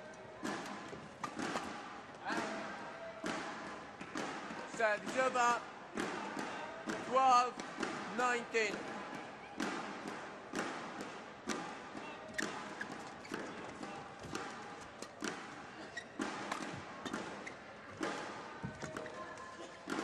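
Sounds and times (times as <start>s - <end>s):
indoor hall noise: 0.0s - 20.0s
rackets hitting shuttlecock: 0.4s - 20.0s.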